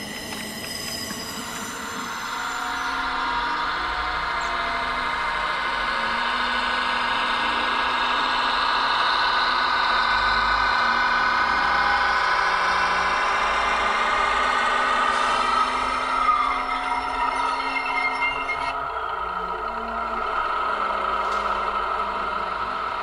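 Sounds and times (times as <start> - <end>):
model train engine: 0.0 - 23.0.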